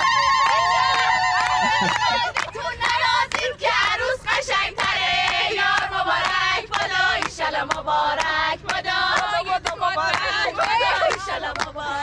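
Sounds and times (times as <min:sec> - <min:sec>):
group singing in chorus: 0:00.0 - 0:12.0.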